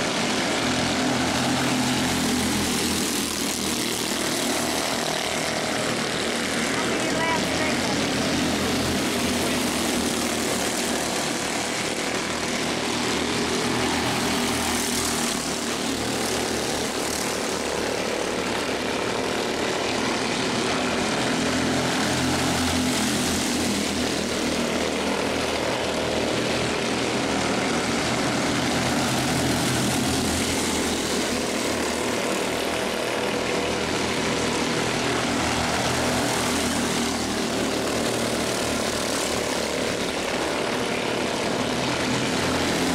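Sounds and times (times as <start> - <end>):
race car engines droning: 0.0 - 42.9.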